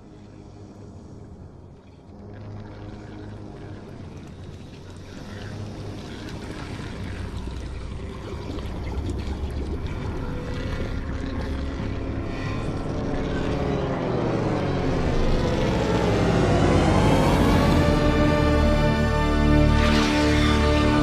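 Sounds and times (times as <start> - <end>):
deep cinematic rumble: 0.0 - 21.0
music: 0.0 - 21.0
sweeping gliding tones: 0.0 - 21.0.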